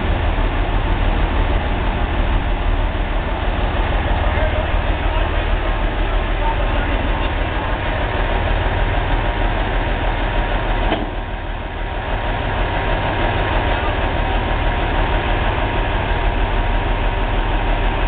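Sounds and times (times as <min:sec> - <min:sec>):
heavy engine idling: 0:00.0 - 0:18.0.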